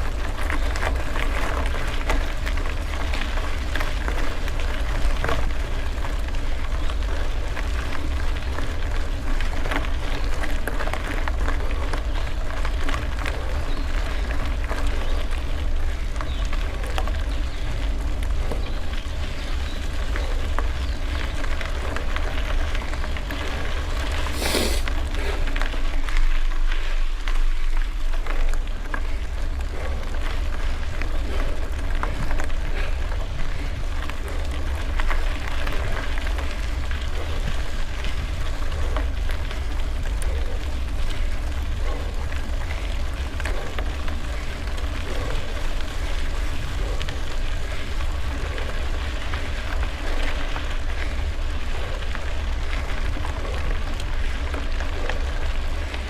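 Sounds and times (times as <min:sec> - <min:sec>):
bicycle tyres on gravel: 0:00.0 - 0:56.0
wind rumbling on microphone: 0:00.0 - 0:56.0.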